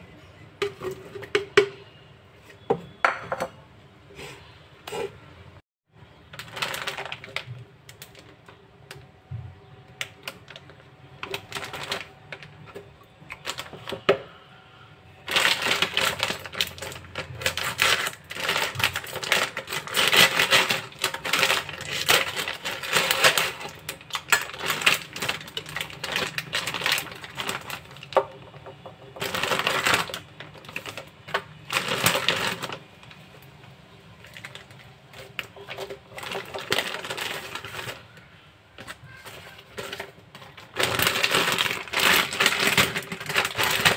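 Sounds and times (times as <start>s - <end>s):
plastic packets crinkling: 6.3s - 9.1s, 9.9s - 14.2s, 15.2s - 43.9s.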